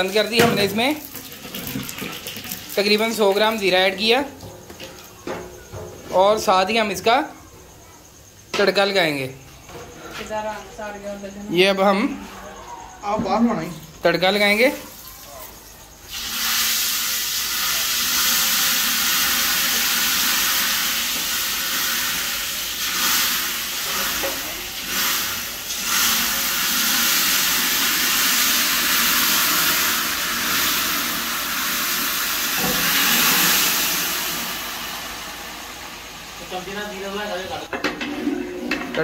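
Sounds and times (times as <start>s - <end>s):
hot ghee sizzling: 0.0s - 7.8s, 13.7s - 39.0s.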